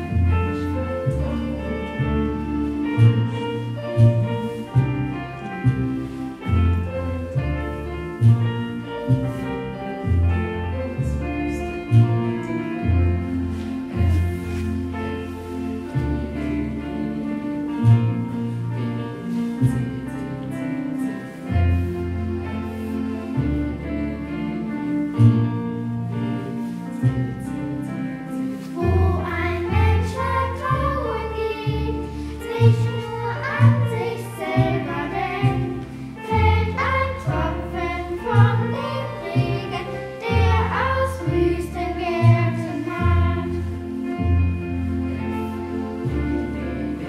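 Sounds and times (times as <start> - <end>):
children's choir singing a hymn: 0.0 - 47.0.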